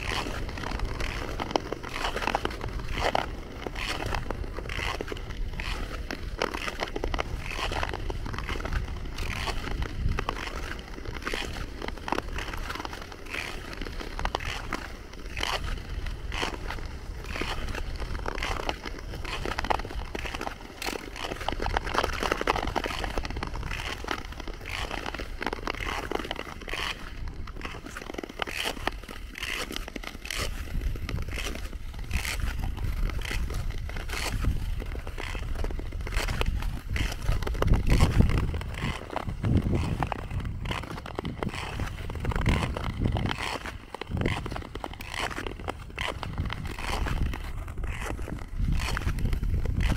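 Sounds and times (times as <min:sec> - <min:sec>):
sharp ice clicks: 0:00.0 - 0:49.9
skate blades scraping on ice: 0:00.0 - 0:49.9.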